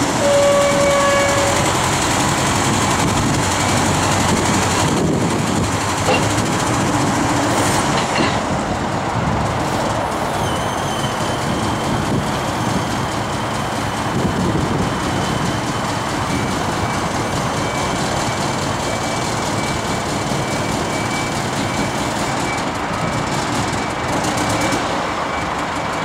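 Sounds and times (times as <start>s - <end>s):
diesel engine running under load: 0.0s - 10.4s, 11.3s - 26.0s.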